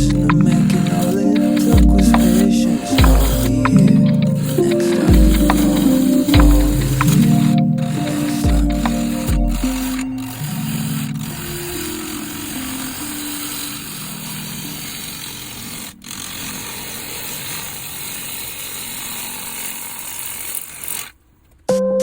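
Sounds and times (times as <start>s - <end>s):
power tool working wood: 0.0s - 21.2s.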